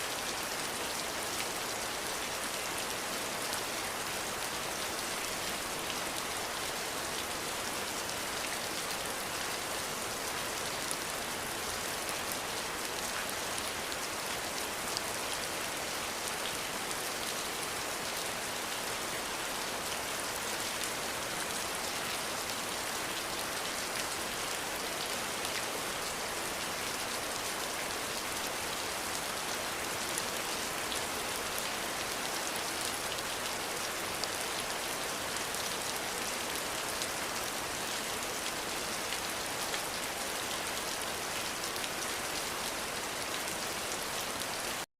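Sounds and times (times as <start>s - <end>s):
steady rain hiss: 0.0s - 44.8s.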